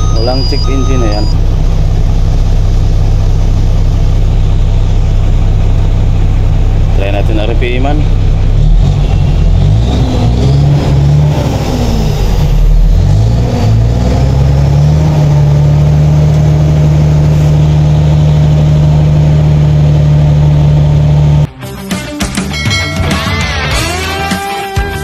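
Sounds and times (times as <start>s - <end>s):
diesel truck engine revving: 0.0s - 21.5s.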